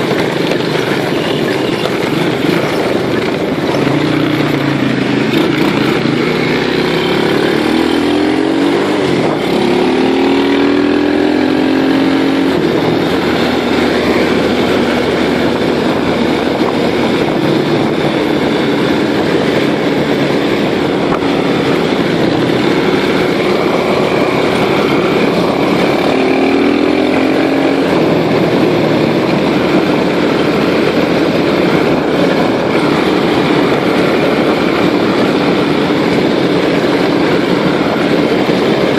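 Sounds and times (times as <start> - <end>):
small motorcycle engine accelerating: 0.0 - 38.9
steady rushing noise: 0.0 - 38.9.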